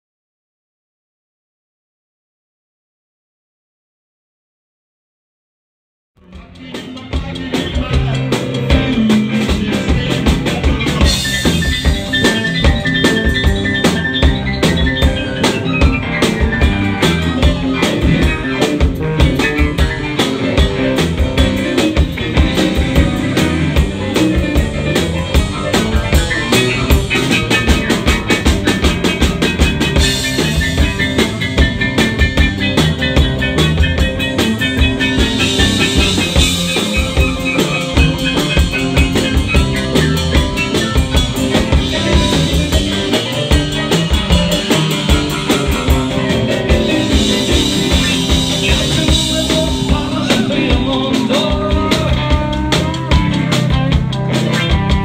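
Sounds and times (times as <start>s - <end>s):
drum kit: 6.2s - 55.0s
electric bass: 6.2s - 55.0s
electric guitar: 6.2s - 55.0s
stage piano played hard: 6.2s - 55.0s.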